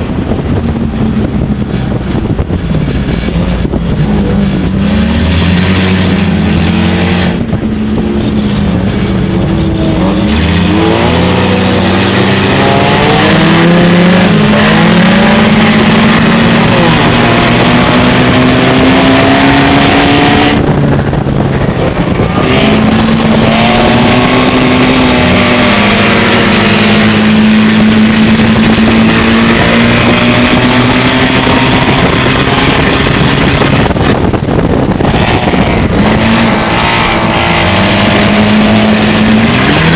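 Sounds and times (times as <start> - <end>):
race car engine under load: 0.0 - 39.9
road and wind noise: 0.0 - 39.9.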